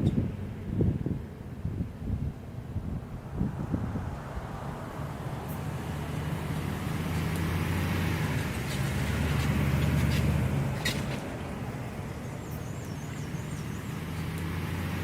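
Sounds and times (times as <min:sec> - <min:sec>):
tyre road noise: 0:00.0 - 0:15.0
vehicle engine running: 0:02.8 - 0:15.0.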